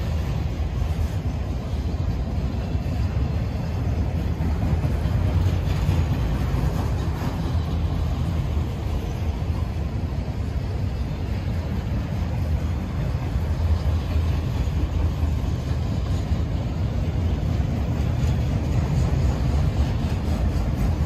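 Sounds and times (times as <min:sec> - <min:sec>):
freight cars rumbling on rails: 0:00.0 - 0:21.0.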